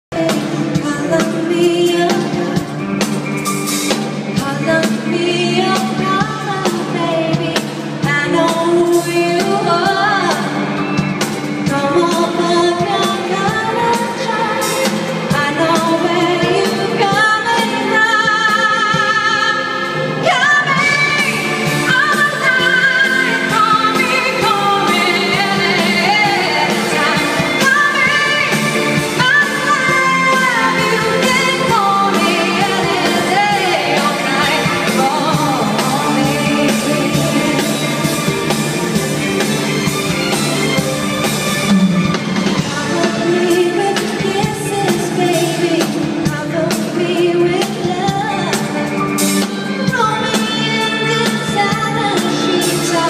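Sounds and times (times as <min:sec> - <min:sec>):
pop band playing live: 0:00.0 - 0:53.0
woman singing lead: 0:00.1 - 0:53.0.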